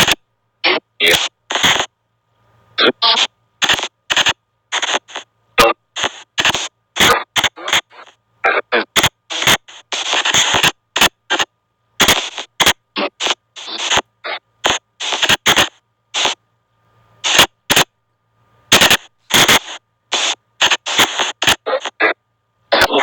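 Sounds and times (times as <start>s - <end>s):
choppy static bursts: 0.0s - 2.0s, 2.7s - 16.4s, 17.2s - 18.0s, 18.6s - 23.0s.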